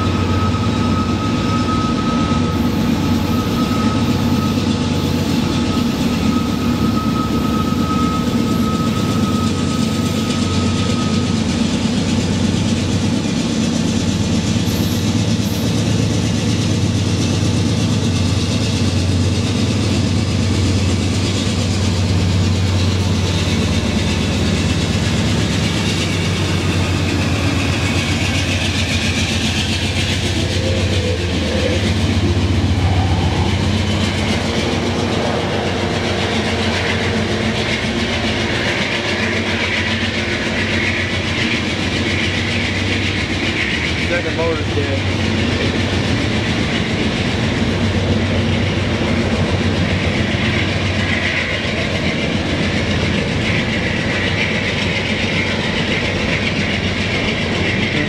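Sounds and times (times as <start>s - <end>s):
train wheels on rail: 0.0s - 58.0s.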